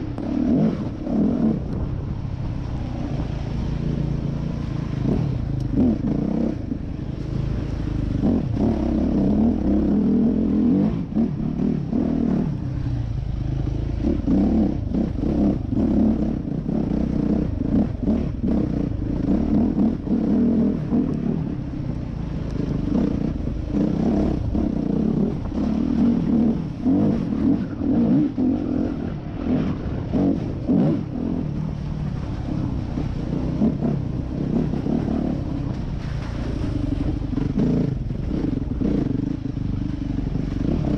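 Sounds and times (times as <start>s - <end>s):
dirt bike engine revving: 0.0s - 2.2s, 2.9s - 40.9s.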